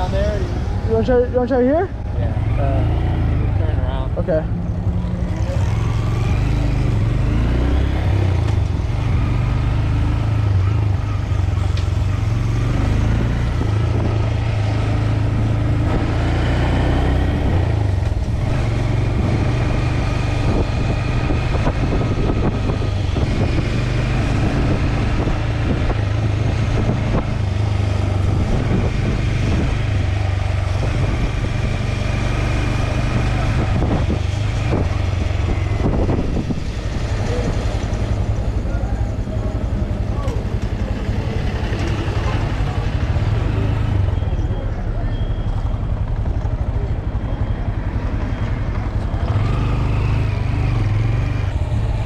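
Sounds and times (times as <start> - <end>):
motorcycle engine rumble: 0.0 - 52.0.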